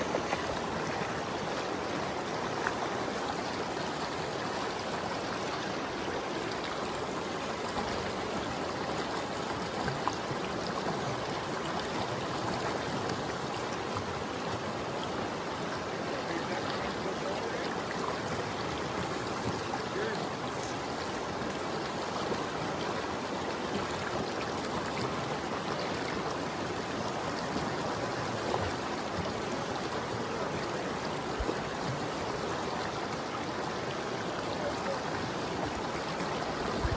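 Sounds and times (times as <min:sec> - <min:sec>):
river water flowing: 0:00.0 - 0:36.9.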